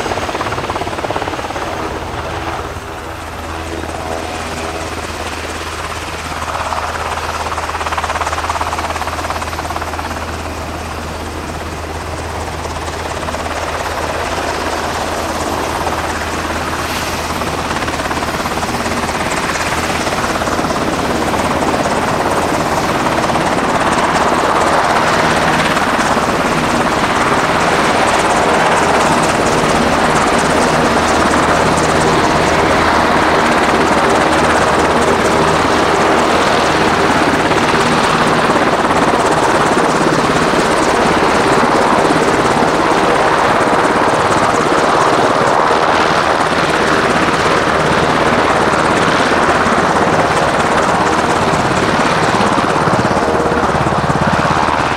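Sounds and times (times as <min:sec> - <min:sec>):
helicopter rotor and engines running: 0:00.0 - 0:54.9.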